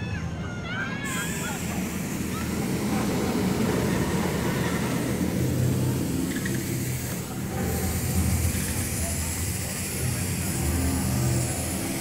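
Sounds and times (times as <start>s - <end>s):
low rumbling ambient drone: 1.1s - 12.0s.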